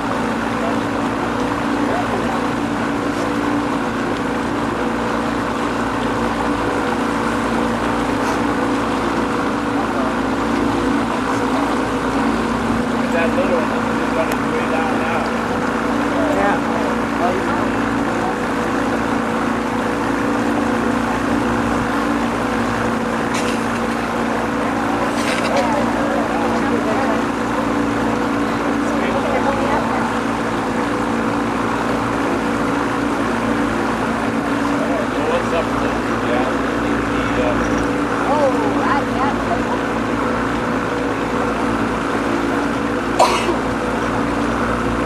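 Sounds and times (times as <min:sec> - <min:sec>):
raft motor humming: 0:00.0 - 0:45.0
water and wind noise: 0:00.0 - 0:45.0.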